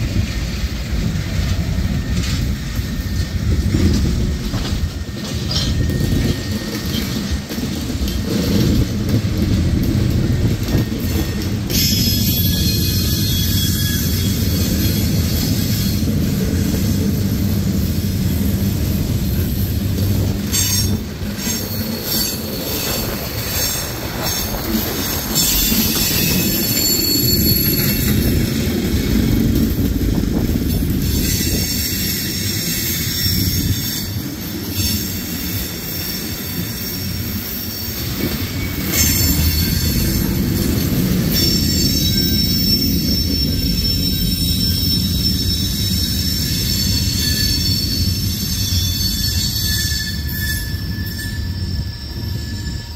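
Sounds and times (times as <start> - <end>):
train wheels rumbling on rail: 0.0 - 52.9
high wheel squeal: 9.6 - 52.9.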